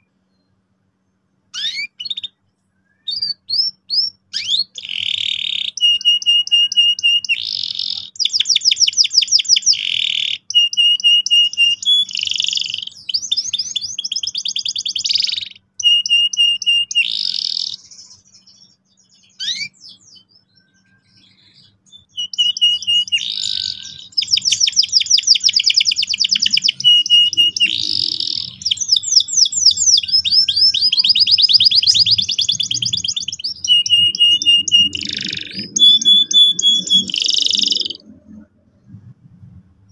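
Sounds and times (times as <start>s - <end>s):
canary singing trills: 0.0s - 39.0s.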